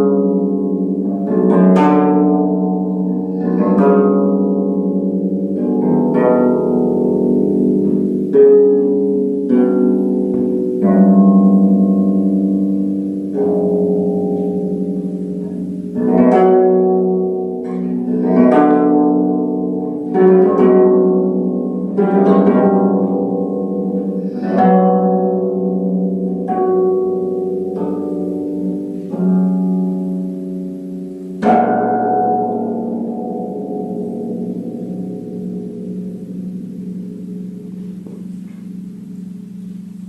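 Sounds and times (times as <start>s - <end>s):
harp plucked notes and chords: 0.0s - 40.0s.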